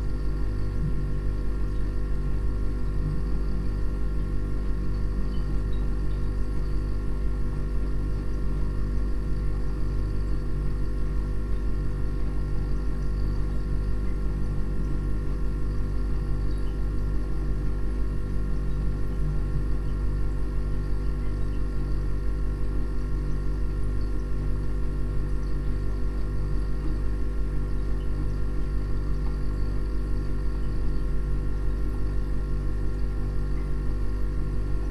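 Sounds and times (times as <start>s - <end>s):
machine hum with low drone: 0.0s - 34.9s.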